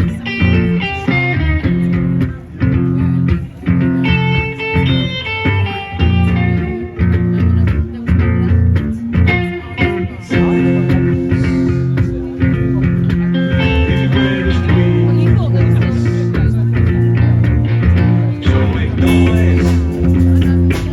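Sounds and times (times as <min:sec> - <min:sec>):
bass guitar: 0:00.0 - 0:20.9
electric guitar: 0:00.0 - 0:20.9
sustained low notes: 0:01.4 - 0:20.9.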